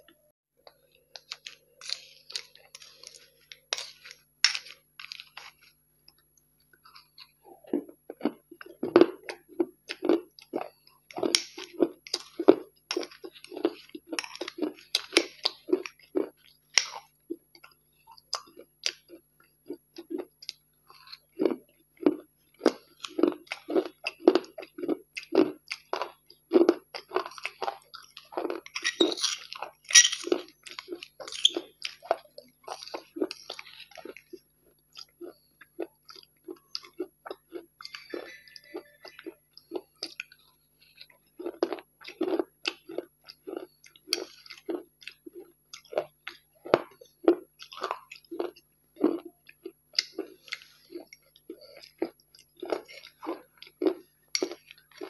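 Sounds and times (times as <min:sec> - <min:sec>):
crunchy chewing: 0:00.6 - 0:55.0.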